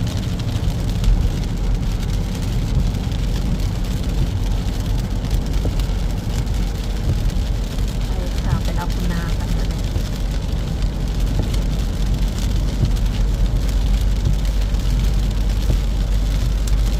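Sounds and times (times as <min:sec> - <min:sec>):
car engine and tyre rumble: 0:00.0 - 0:16.9
rain hiss on wet road: 0:00.0 - 0:16.9.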